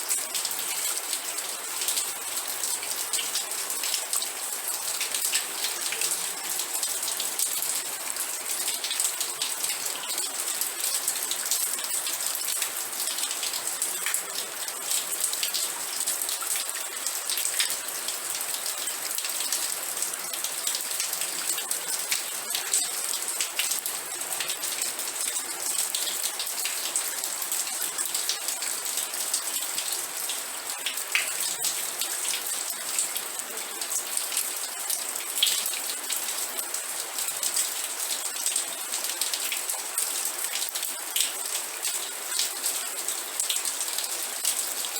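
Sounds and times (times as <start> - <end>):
steady rain falling: 0.0 - 44.9
raindrops ticking on a surface: 8.5 - 44.9.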